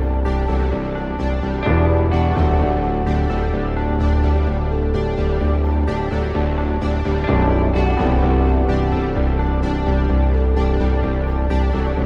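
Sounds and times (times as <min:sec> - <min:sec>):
deep bass line: 0:00.0 - 0:12.0
sustained synth notes: 0:00.0 - 0:12.0.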